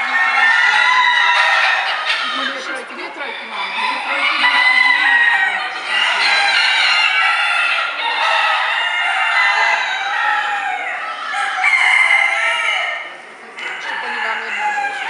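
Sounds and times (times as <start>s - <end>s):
chickens clucking: 0.0s - 15.0s
roosters crowing: 0.0s - 15.0s.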